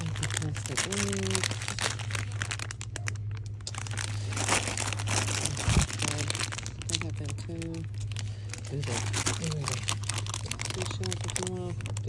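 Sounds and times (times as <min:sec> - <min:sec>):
plastic packaging crinkling: 0:00.0 - 0:12.0
steady low hum: 0:00.0 - 0:12.0.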